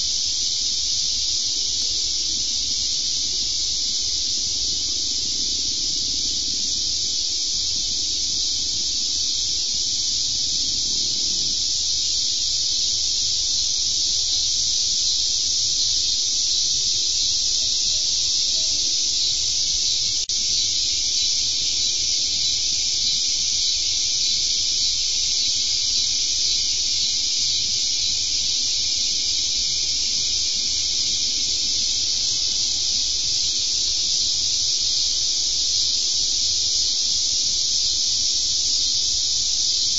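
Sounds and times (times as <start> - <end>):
shrill insect chorus: 0.0 - 39.9.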